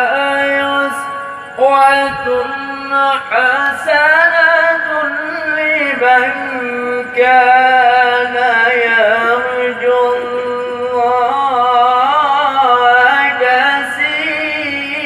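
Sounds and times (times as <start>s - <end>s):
person chanting long notes: 0.0s - 15.0s.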